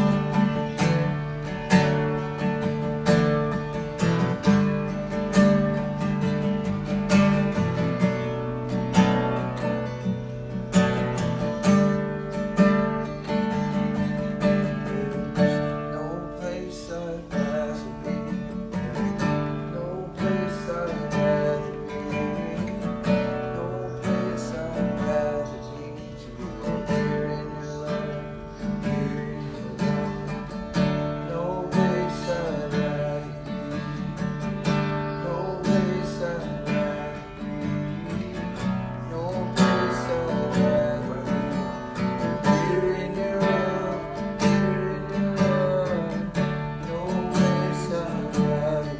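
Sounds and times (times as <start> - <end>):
strummed acoustic guitar: 0.0 - 48.9.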